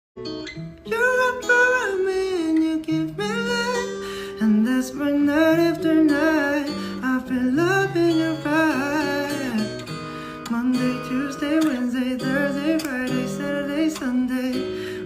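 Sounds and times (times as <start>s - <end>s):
acoustic guitar: 0.2s - 15.0s
man singing: 0.8s - 15.0s.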